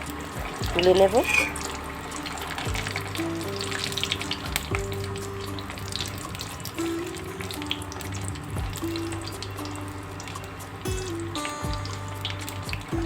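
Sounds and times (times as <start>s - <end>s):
food frying in hot oil: 0.0s - 13.0s
soft background music: 0.0s - 13.0s.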